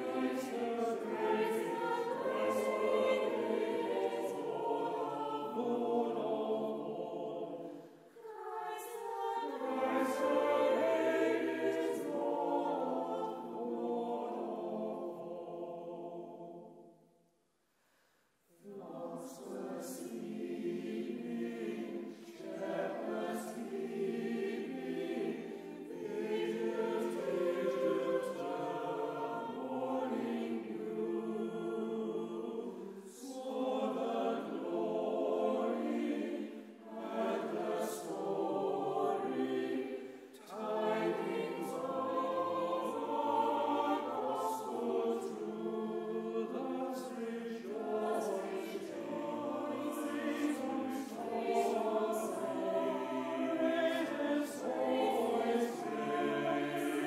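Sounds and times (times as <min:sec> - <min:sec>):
choir singing: 0:00.0 - 0:17.2, 0:18.5 - 0:57.0.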